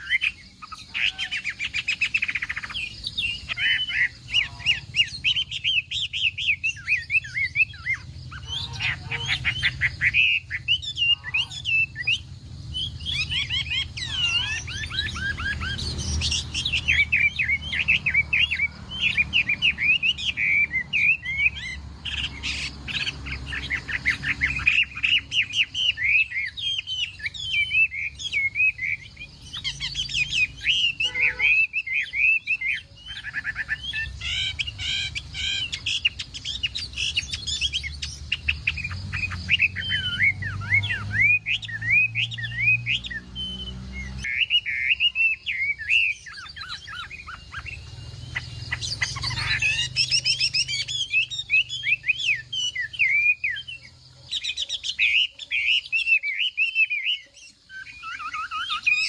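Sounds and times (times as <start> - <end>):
bird singing whistled trills: 0.0 - 59.0.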